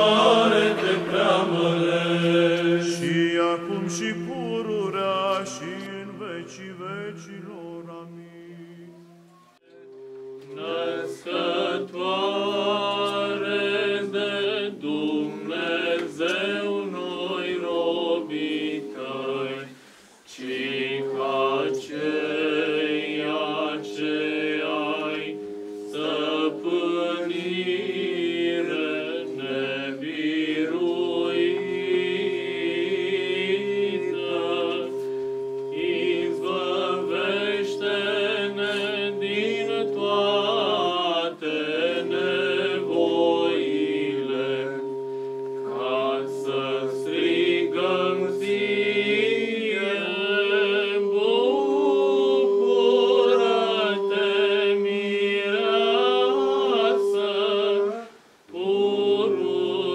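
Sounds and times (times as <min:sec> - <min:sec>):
men chanting a hymn: 0:00.0 - 0:08.8, 0:09.8 - 0:59.9
held vocal drone: 0:00.0 - 0:59.9.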